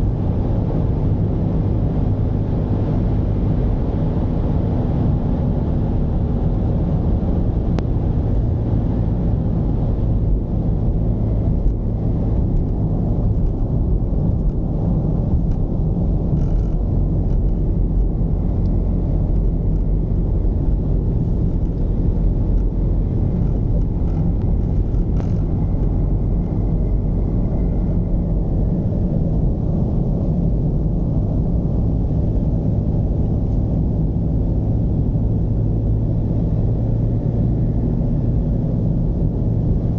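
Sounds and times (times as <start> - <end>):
diesel engine hum: 0.0 - 39.9
road noise while driving: 0.0 - 39.9.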